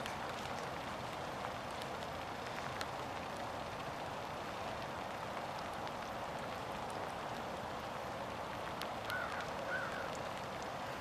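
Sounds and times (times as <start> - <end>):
light rain falling: 0.0 - 11.0.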